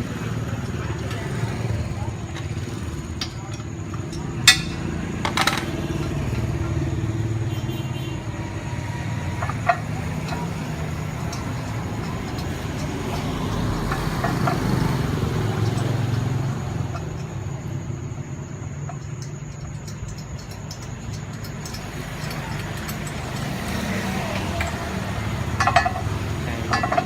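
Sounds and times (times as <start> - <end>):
low motor rumble: 0.0 - 27.0
metallic clinks: 0.7 - 6.8, 9.2 - 27.0.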